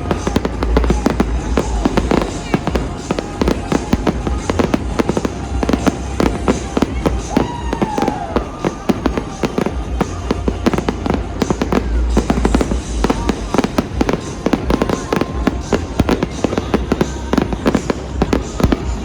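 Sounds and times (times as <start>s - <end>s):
firework falling whistle: 0.0s - 19.0s
fireworks bangs and crackles: 0.0s - 19.0s.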